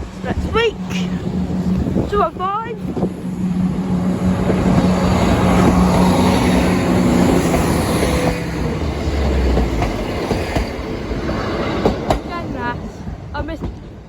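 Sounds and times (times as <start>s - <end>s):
diesel train engine: 0.0s - 14.0s
train wheels rumbling: 0.0s - 14.0s
wheels clacking over rail joints: 0.0s - 14.0s.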